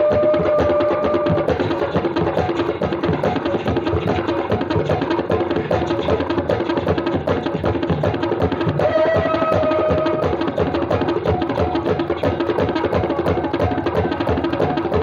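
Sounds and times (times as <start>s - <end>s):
tabla playing fast strokes: 0.0s - 15.0s.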